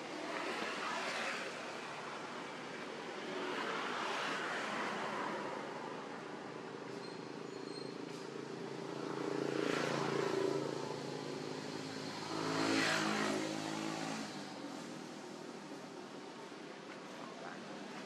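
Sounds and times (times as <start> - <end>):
vehicles driving past: 0.0 - 18.0.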